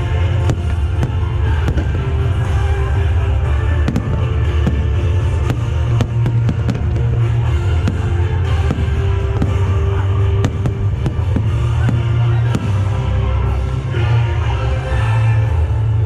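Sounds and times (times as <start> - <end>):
fireworks bangs and cracks: 0.0 - 13.6
show music with heavy bass: 0.0 - 16.0.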